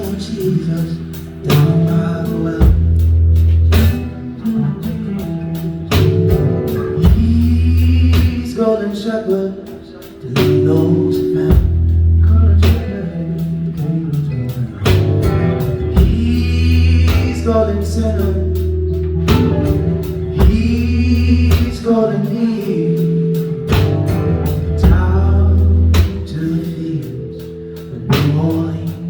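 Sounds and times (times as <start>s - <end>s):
blues-rock band playing: 0.0s - 29.0s
person singing: 0.0s - 29.0s.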